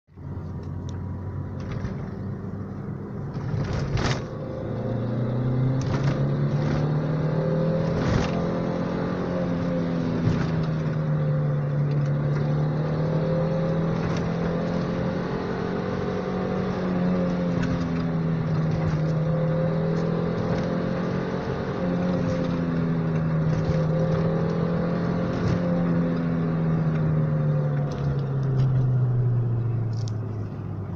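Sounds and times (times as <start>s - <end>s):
car engine from inside cabin: 0.1s - 30.9s.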